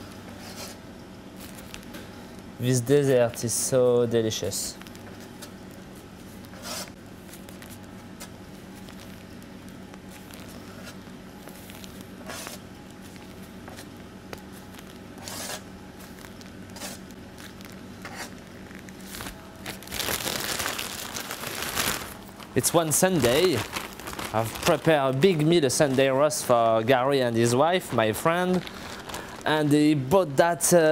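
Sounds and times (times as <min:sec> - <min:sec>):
steady low hum: 0:00.0 - 0:30.9
piping bag squishing: 0:01.4 - 0:02.4, 0:04.4 - 0:26.2, 0:27.4 - 0:29.7.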